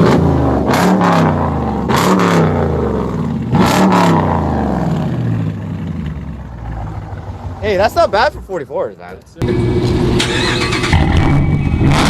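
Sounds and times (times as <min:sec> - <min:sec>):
engine revving: 0:00.0 - 0:07.8, 0:09.4 - 0:12.0.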